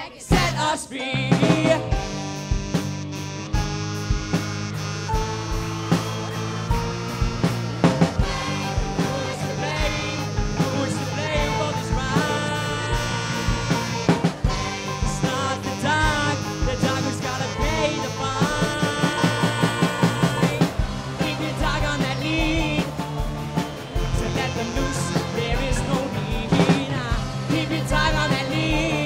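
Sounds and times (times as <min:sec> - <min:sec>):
drum kit beat: 0:00.3 - 0:00.7, 0:01.3 - 0:29.0
rock band music: 0:00.3 - 0:29.0
lead line with bending notes: 0:01.4 - 0:29.0.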